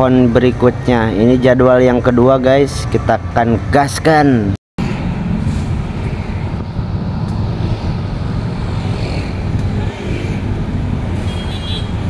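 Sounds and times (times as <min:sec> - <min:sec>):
city road traffic rumble: 0:00.0 - 0:12.0
motorcycles passing: 0:00.0 - 0:12.0.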